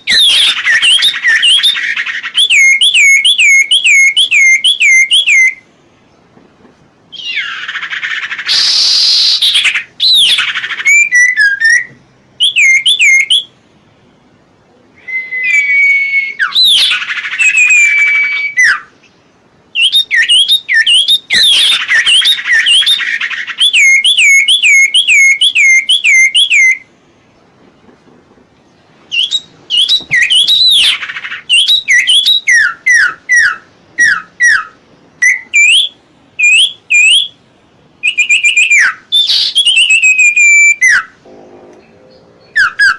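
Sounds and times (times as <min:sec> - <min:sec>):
songbird whistled notes: 0:00.0 - 0:05.7, 0:07.1 - 0:13.6, 0:15.0 - 0:26.9, 0:29.1 - 0:37.4, 0:38.0 - 0:41.2, 0:42.4 - 0:42.9.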